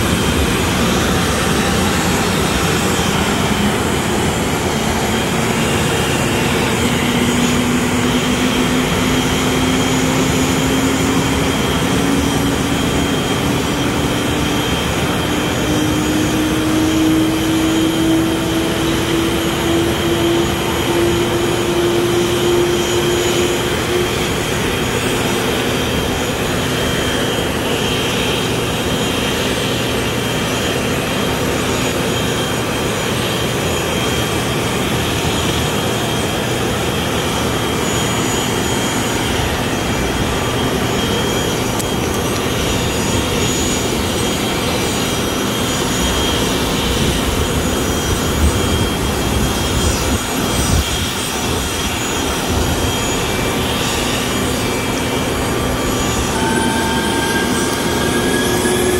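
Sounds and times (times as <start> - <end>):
distant jet engines whining: 0.0 - 58.9.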